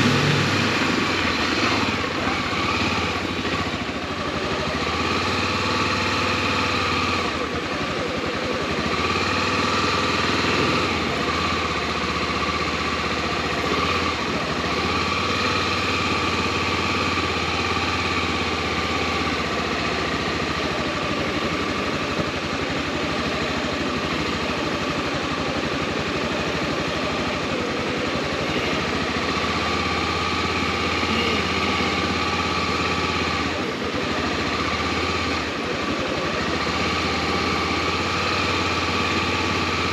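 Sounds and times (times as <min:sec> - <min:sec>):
single-cylinder motorcycle engine running: 0:00.0 - 0:39.9.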